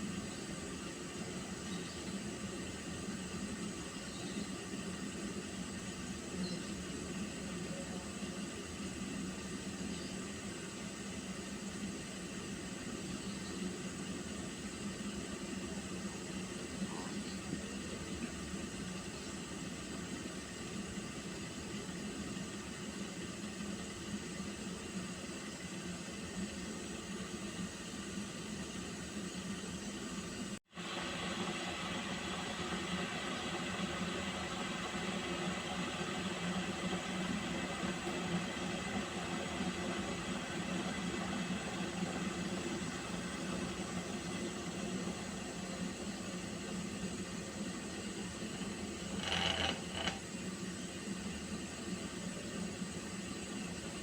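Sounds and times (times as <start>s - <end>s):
water heating in a pot: 0.0s - 54.0s.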